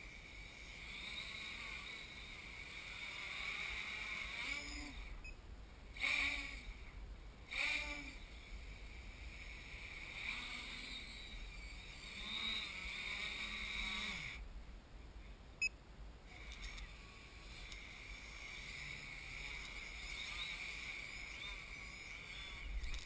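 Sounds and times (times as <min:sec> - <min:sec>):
drone motors whining: 0:00.0 - 0:05.3, 0:06.0 - 0:14.4, 0:16.3 - 0:23.0.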